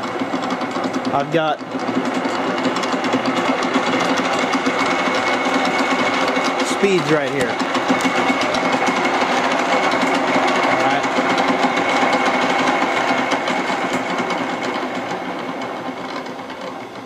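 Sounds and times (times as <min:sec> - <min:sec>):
milling machine hum and gear noise: 0:00.0 - 0:17.0.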